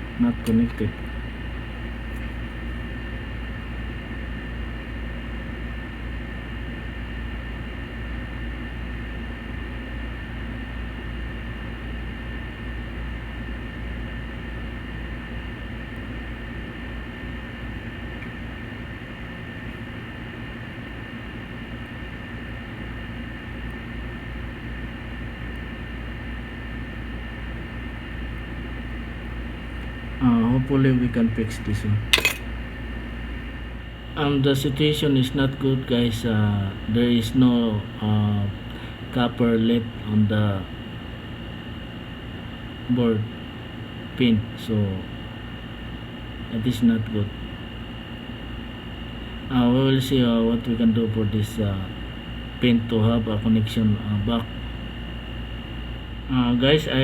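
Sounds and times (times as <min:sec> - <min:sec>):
fan-driven machine whirring: 0:00.0 - 0:57.0.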